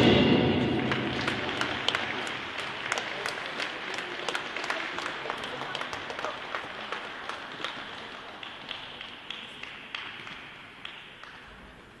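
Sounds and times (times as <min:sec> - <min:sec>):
audience applause: 0:00.8 - 0:11.4.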